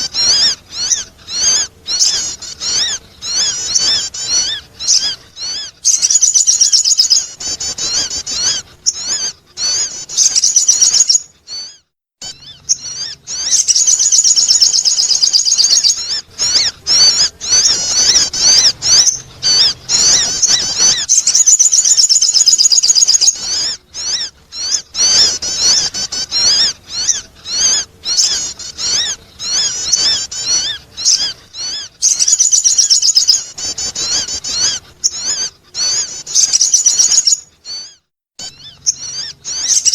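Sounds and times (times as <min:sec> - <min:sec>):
high-pitched twittering bird chirps: 0:00.0 - 0:39.9.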